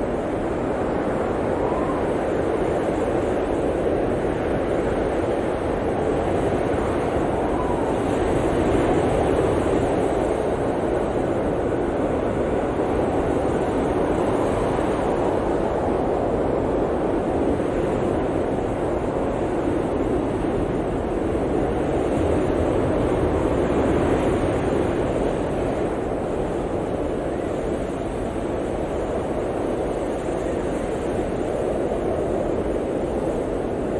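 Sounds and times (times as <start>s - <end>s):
blizzard wind blowing hard: 0.0s - 33.9s.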